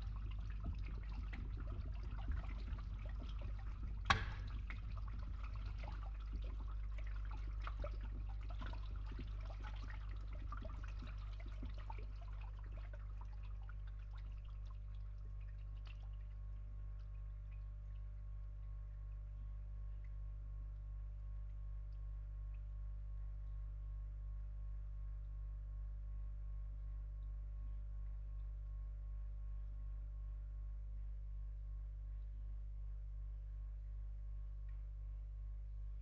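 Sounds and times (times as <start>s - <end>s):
pump humming: 0.0s - 30.9s
water trickling through a pipe: 0.0s - 36.0s.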